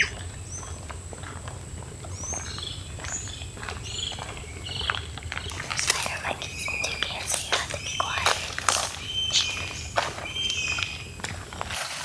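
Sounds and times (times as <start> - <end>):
birds chirping and whistling: 0.0 - 0.9, 1.8 - 11.8.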